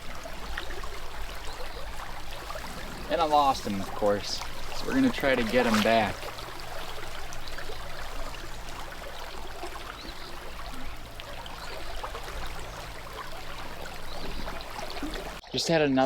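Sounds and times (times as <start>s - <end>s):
stream water flowing: 0.0s - 15.4s.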